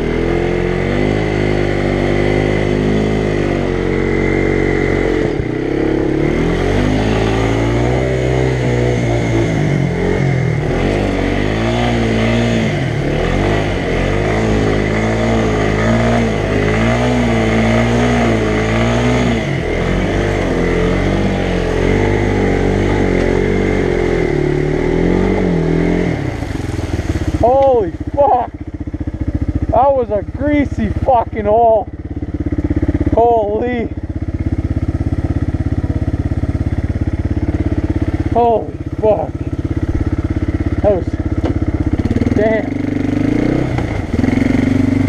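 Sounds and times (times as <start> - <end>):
quad bike engine revving: 0.0 - 45.0.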